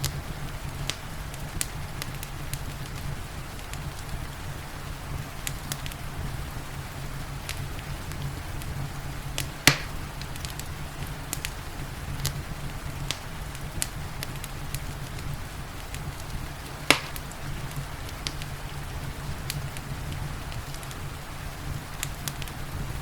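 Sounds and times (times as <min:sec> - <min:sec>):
low rumble of fire: 0:00.0 - 0:23.0
rain hiss: 0:00.0 - 0:23.0
wood fire crackling and popping: 0:00.0 - 0:23.0.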